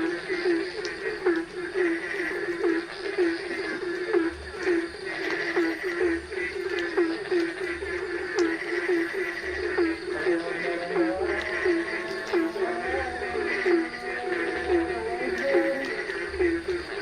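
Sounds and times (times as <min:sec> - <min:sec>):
frogs croaking: 0:00.0 - 0:17.0
steady background hiss: 0:00.0 - 0:17.0.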